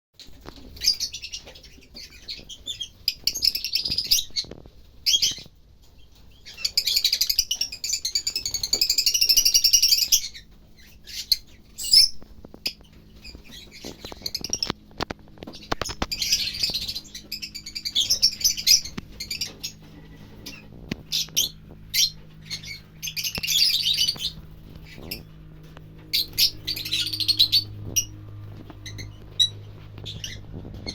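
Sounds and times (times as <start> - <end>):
lovebirds chattering: 0.2 - 30.9.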